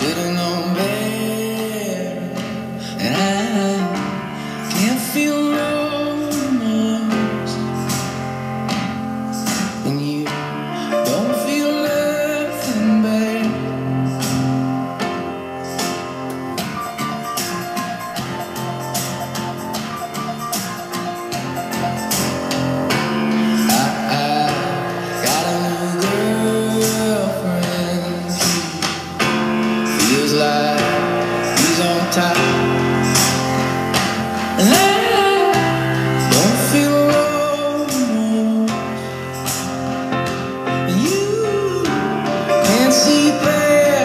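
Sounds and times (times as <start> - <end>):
person singing: 0.0 - 44.0
song through boombox speakers: 0.0 - 44.0.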